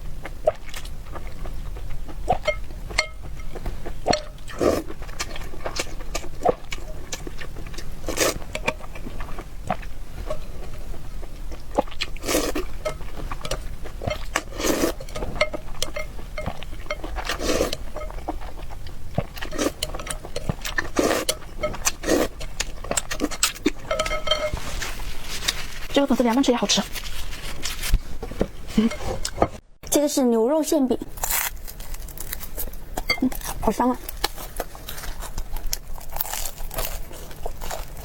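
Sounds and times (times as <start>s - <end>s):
wet chewing and slurping: 0.3s - 26.0s, 31.2s - 38.0s.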